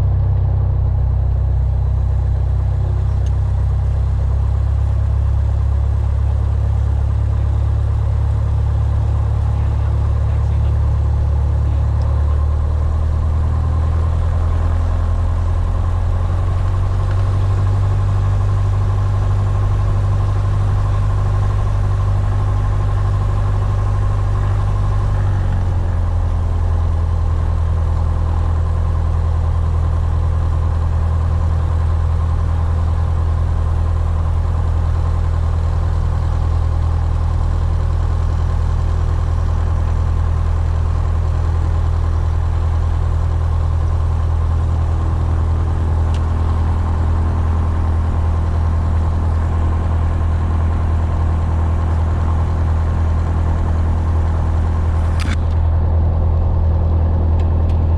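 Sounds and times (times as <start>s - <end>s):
aircraft engine and propeller drone: 0.0s - 57.9s.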